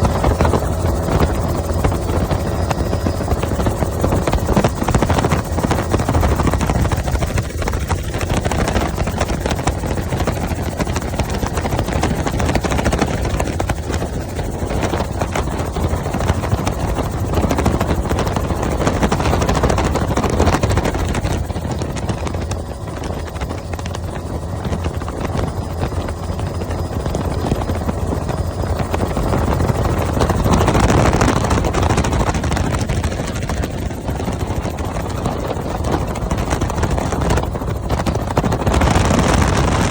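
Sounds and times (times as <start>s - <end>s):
helicopter rotor and engine running: 0.0s - 39.9s.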